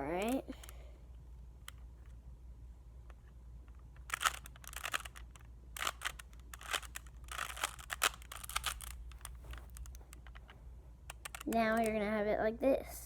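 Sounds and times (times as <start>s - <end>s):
puzzle cube clicking turns: 0.0s - 2.2s, 3.0s - 12.0s.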